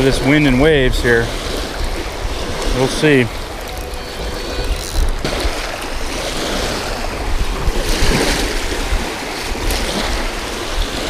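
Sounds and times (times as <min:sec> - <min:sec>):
waves breaking on rocky shore: 0:00.0 - 0:11.0
wind buffeting microphone: 0:00.0 - 0:11.0.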